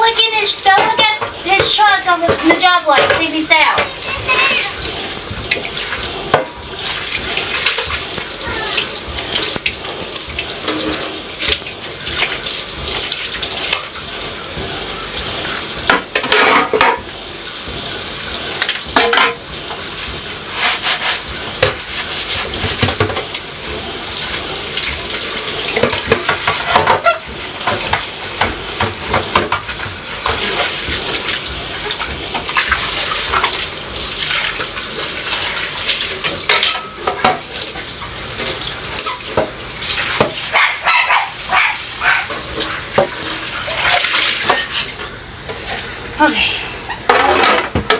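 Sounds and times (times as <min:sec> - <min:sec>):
dishes clattering against sink: 0:00.0 - 0:23.5, 0:24.2 - 0:45.8, 0:46.9 - 0:47.9
tap running into sink: 0:00.1 - 0:45.8, 0:46.9 - 0:47.9.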